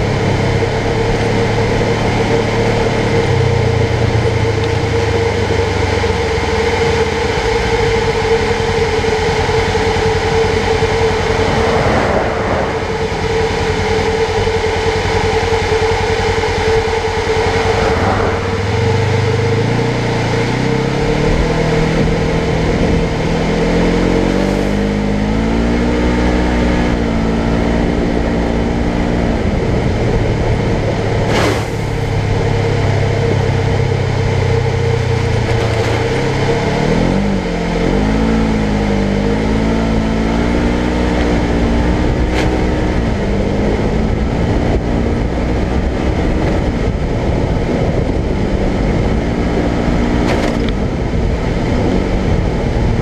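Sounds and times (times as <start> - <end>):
steady high whine: 0.0 - 45.9
engine revving while riding: 0.0 - 53.0.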